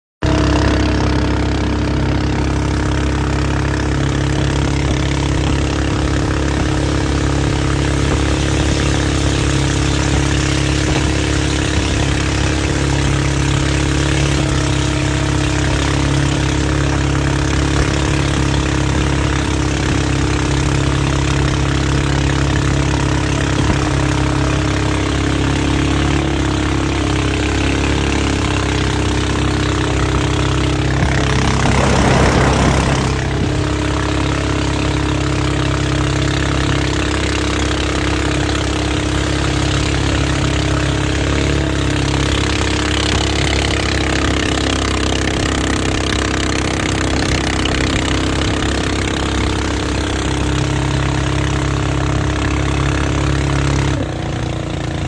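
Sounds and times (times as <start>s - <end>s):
boat motor running: 0.2s - 55.0s.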